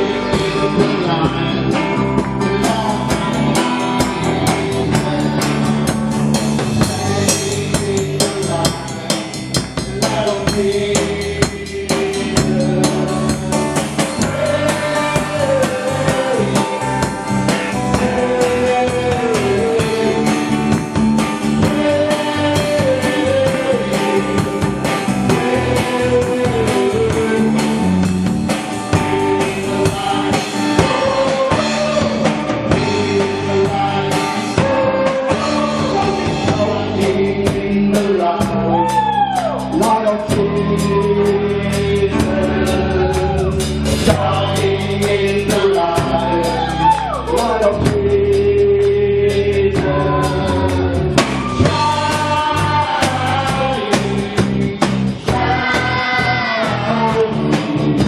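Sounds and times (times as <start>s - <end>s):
acoustic guitar: 0.0s - 58.0s
drum kit: 0.0s - 58.0s
men singing: 0.0s - 58.0s.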